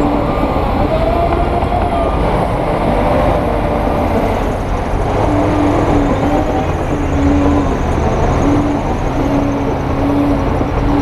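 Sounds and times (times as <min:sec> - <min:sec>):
heavy diesel machinery rumbling: 0:00.0 - 0:11.0.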